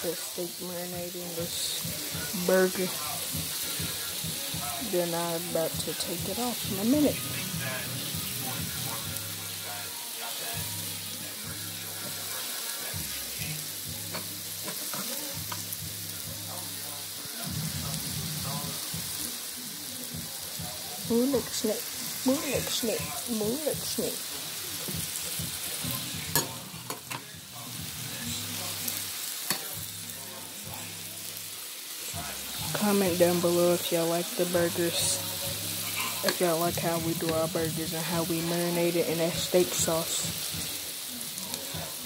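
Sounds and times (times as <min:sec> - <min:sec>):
patties sizzling in a pan: 0:00.0 - 0:42.0.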